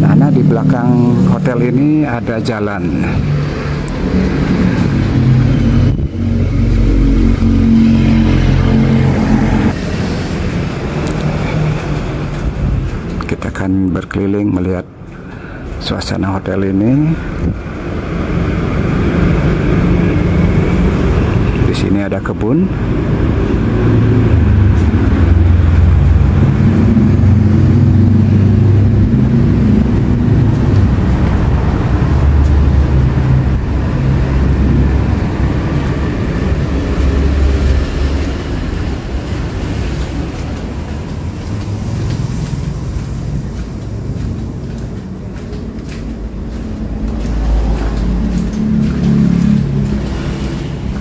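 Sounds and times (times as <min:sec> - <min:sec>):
vehicle engines passing: 0:00.0 - 0:51.0.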